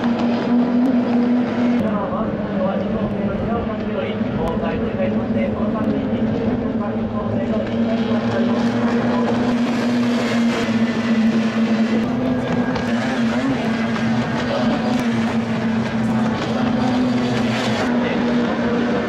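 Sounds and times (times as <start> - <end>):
racing boat engines droning: 0.0 - 19.0.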